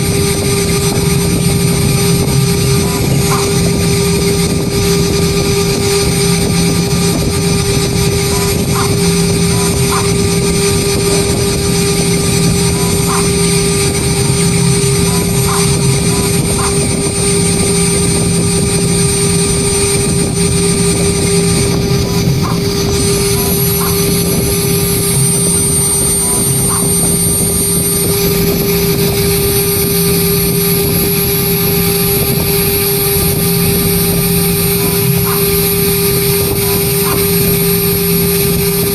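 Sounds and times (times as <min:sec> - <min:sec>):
engraving machine spindle whine: 0:00.0 - 0:38.9.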